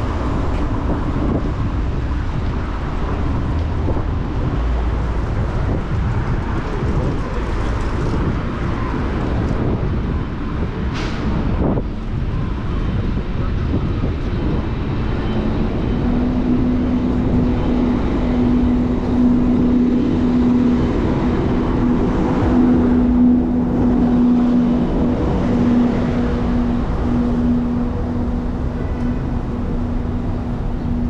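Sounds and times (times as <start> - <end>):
street traffic rumble: 0.0 - 31.0.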